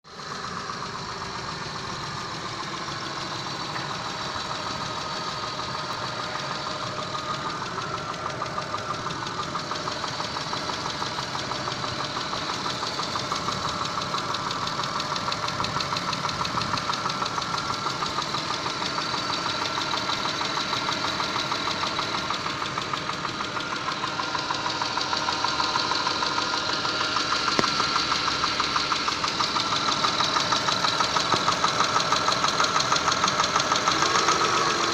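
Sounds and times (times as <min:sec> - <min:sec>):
engine running with rapid knock: 0:00.1 - 0:34.9.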